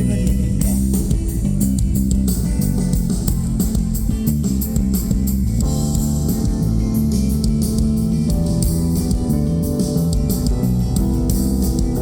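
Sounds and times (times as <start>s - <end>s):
bass guitar line: 0.0s - 12.0s
drums on cymbals: 0.0s - 12.0s
electric guitar: 0.0s - 12.0s.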